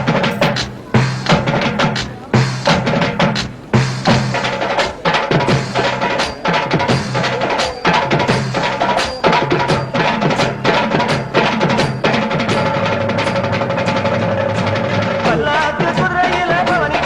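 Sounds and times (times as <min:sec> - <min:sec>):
droning tone: 0:00.0 - 0:17.0
hard drum strokes: 0:00.0 - 0:17.0.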